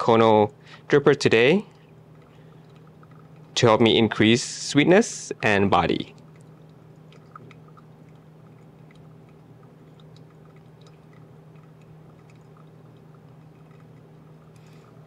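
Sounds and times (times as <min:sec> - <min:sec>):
low hum: 0:00.0 - 0:15.0
coffee dripping: 0:00.3 - 0:15.0.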